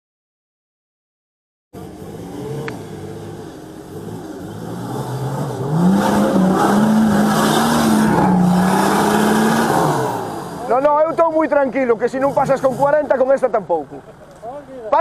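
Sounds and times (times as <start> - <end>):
off-road engine revving: 1.8 - 15.0.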